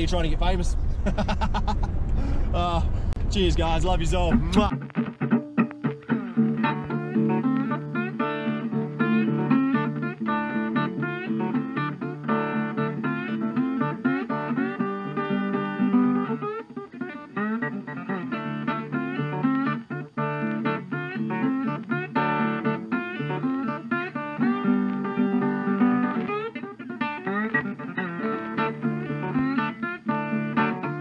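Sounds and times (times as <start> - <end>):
acoustic guitar plucked and strummed: 4.3 - 31.0.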